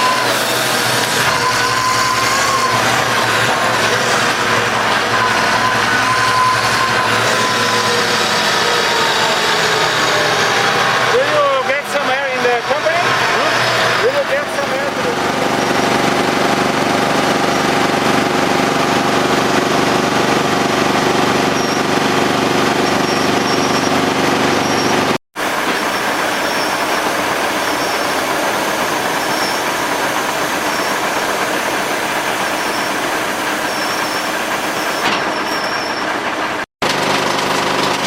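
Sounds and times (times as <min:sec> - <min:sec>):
wood chipper running: 0:00.0 - 0:38.0.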